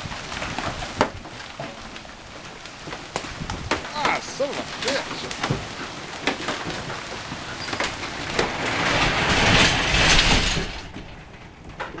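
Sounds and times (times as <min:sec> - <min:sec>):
hail pelting down: 0:00.0 - 0:12.0.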